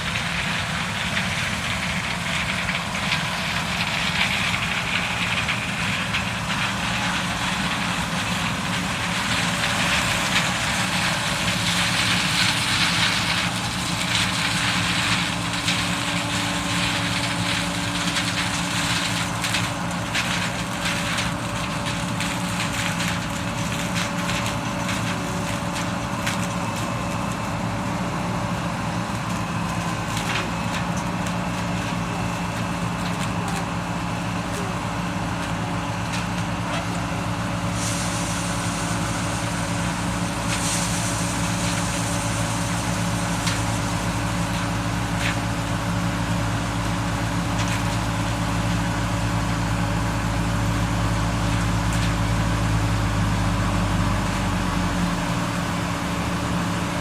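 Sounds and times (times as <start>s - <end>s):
harvester engine humming: 0.0s - 57.0s.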